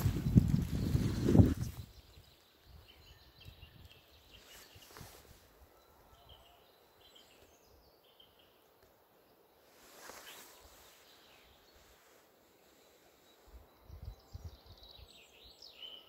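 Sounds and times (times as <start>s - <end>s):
faint distant birdsong: 0.0s - 16.0s.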